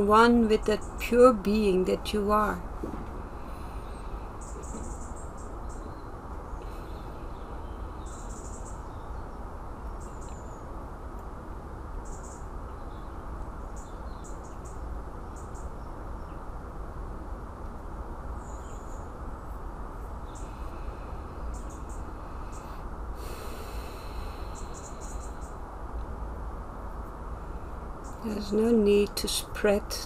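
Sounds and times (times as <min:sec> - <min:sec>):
low background rumble and hiss: 0:00.0 - 0:30.0.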